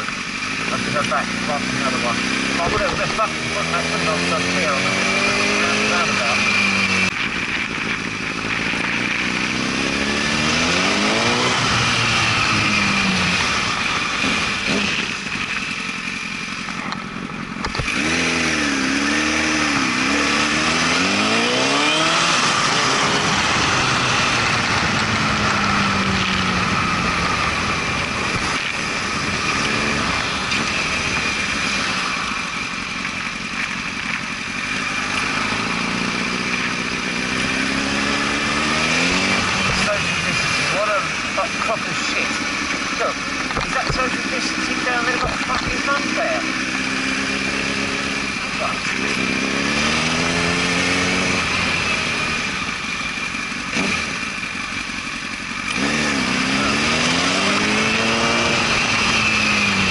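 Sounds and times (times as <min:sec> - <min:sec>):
motorcycle engine accelerating: 0:00.0 - 0:59.9
wind and road rush: 0:00.0 - 0:59.9.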